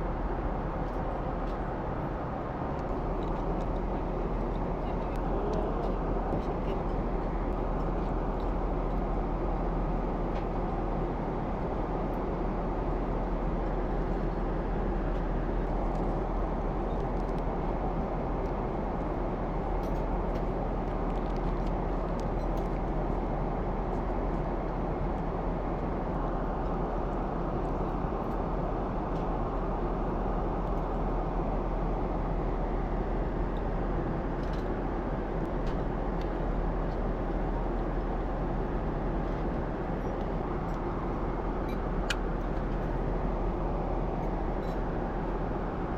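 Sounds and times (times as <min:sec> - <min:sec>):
airliner cabin roar: 0:00.0 - 0:45.9.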